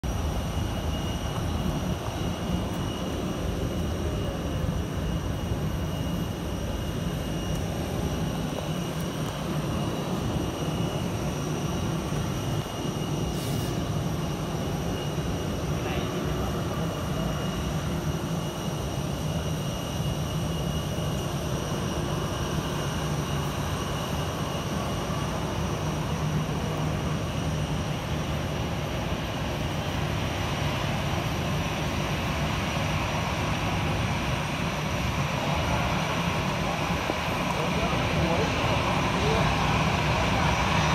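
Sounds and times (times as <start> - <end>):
aircraft drone: 0.0 - 40.9.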